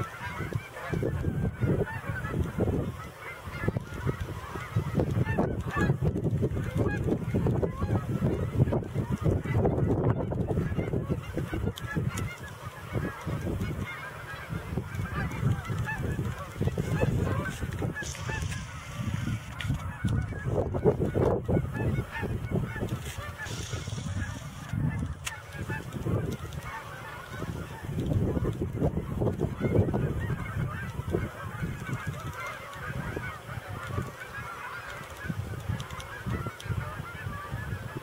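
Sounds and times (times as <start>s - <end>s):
geese honking: 0.0s - 38.0s.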